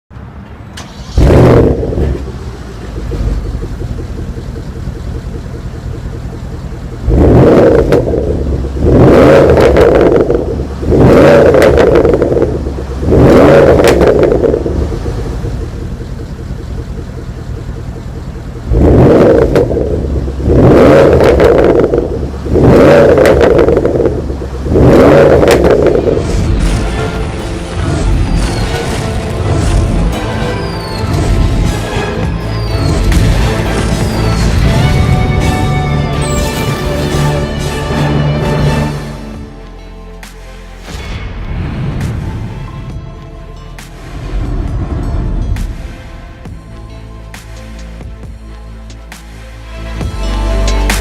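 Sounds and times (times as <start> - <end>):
car engine starting and idling: 0.1 - 51.0
car engine revving: 0.6 - 51.0.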